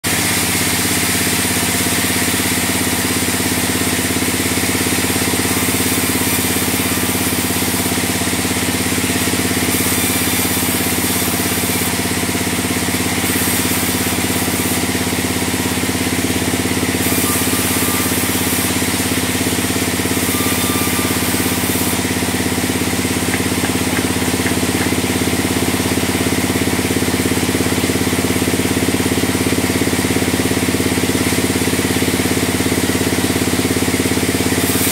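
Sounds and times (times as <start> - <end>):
band saw running: 0.0 - 34.9.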